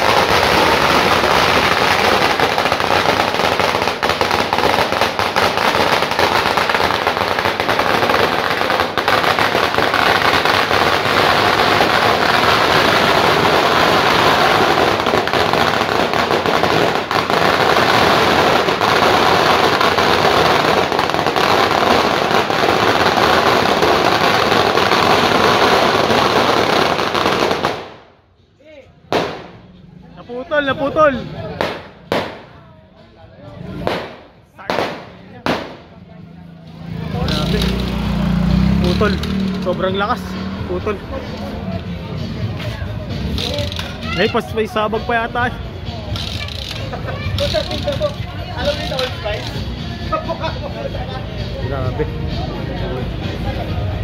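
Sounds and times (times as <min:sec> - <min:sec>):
firecracker string crackling: 0:00.0 - 0:28.2, 0:30.6 - 0:32.7, 0:33.6 - 0:50.5.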